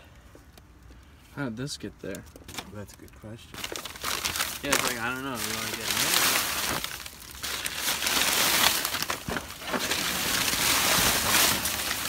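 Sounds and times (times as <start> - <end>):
plastic bags and paper rustling: 2.1 - 12.0
sharp crackles: 2.1 - 12.0.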